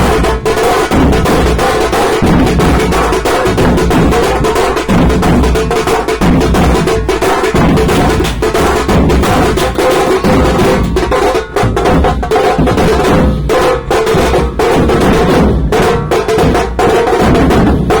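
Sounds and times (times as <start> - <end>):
loud rapid drumming: 0.0 - 18.0.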